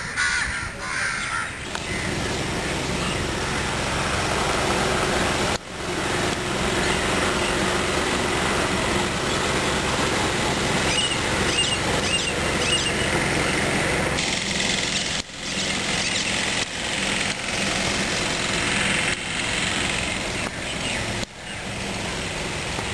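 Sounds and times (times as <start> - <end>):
engine running: 1.3 - 22.9.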